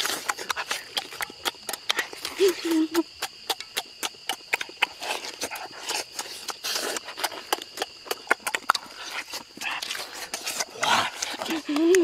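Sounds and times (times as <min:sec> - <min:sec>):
people chewing meat: 0:00.0 - 0:12.0
wet lip smacks and clicks: 0:00.0 - 0:12.0.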